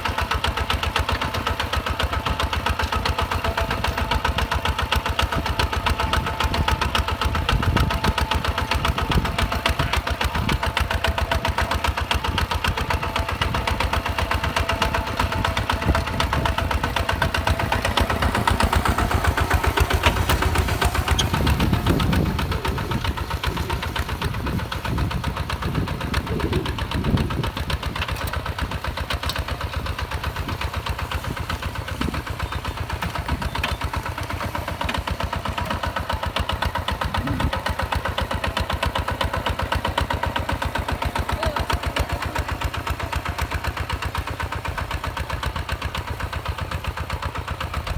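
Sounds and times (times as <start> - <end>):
tractor engine chugging: 0.0 - 47.9.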